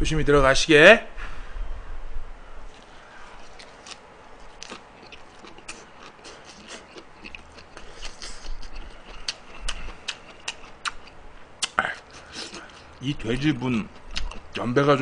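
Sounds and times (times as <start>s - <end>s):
wet chewing and crunching: 2.8s - 14.8s.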